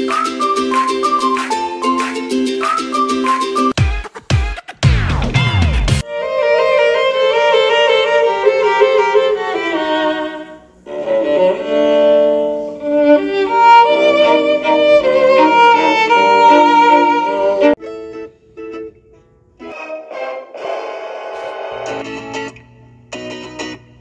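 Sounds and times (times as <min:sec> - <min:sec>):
string melody: 0:00.0 - 0:03.8, 0:06.0 - 0:24.0.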